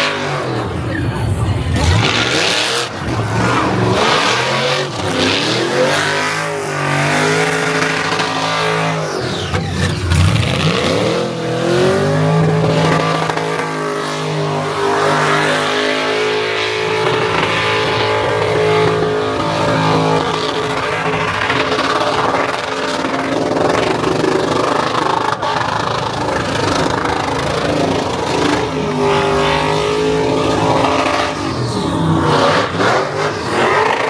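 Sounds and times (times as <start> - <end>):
car engine revving hard: 0.0 - 34.0.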